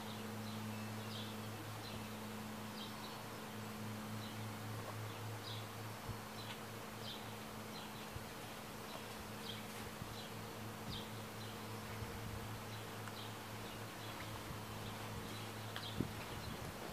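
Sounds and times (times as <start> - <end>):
low buzzing hum: 0.0 - 16.9.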